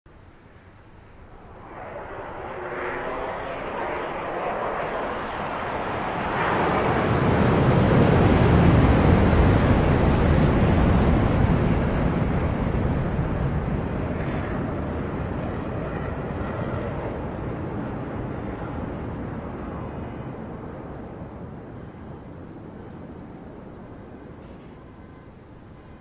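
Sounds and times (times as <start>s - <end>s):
airplane flying overhead: 0.1s - 26.0s.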